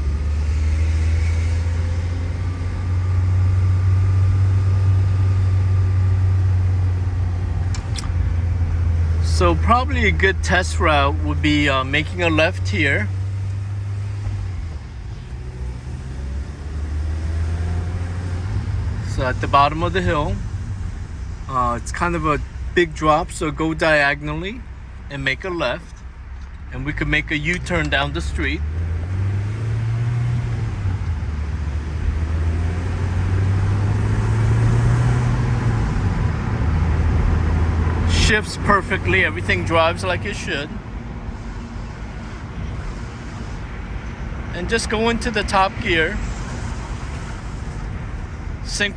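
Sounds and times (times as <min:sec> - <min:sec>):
car engine drone: 0:00.0 - 0:48.9
road noise: 0:00.0 - 0:48.9.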